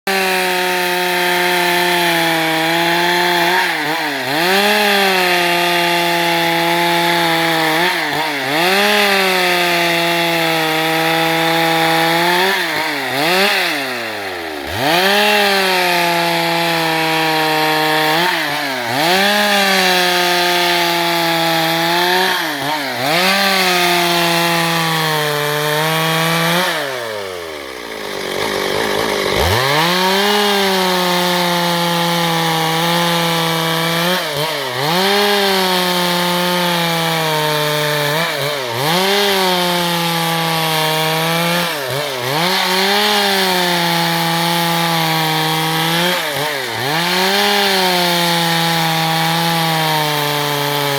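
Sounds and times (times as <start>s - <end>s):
chainsaw sawing wood: 0.0s - 50.9s.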